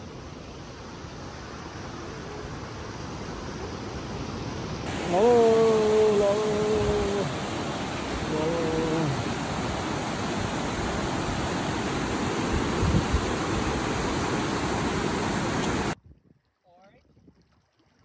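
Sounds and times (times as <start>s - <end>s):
rushing water hiss: 0.0s - 16.0s.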